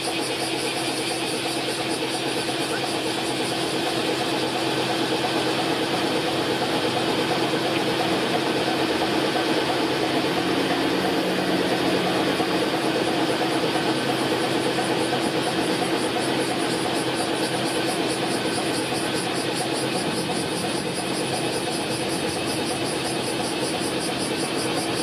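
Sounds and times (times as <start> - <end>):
road traffic hum: 0.0 - 25.0
tram running on street track: 0.0 - 25.0.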